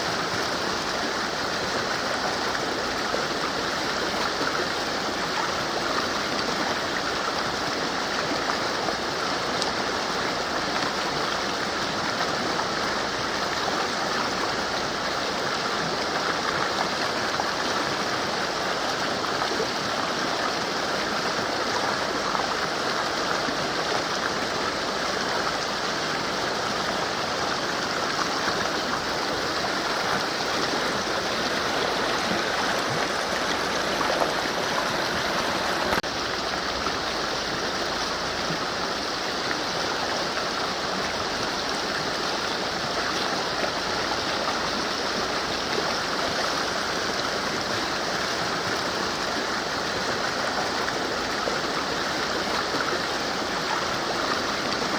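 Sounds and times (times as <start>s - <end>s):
river rushing over rocks: 0.0s - 54.9s.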